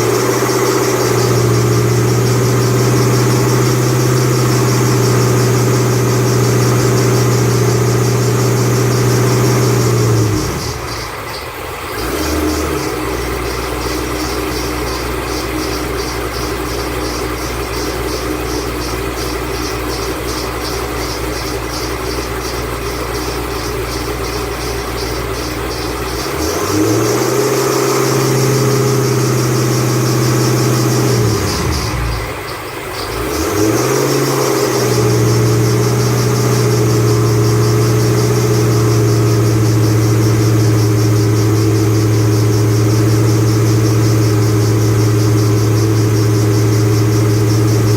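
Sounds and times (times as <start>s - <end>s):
car engine idling and revving: 0.0s - 47.9s
faint high chirping: 0.0s - 47.9s.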